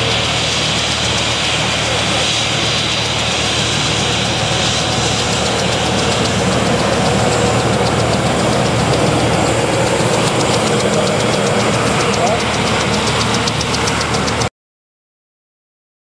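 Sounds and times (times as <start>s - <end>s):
airliner jet engines taxiing: 0.0s - 14.5s.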